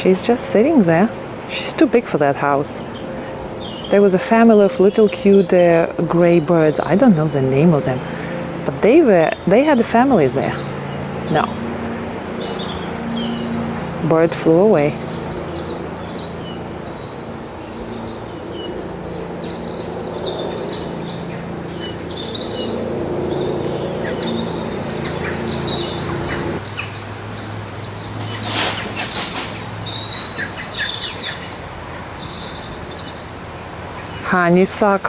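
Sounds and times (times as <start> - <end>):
crickets droning: 0.0 - 35.0
songbirds chirping and singing: 0.0 - 35.0.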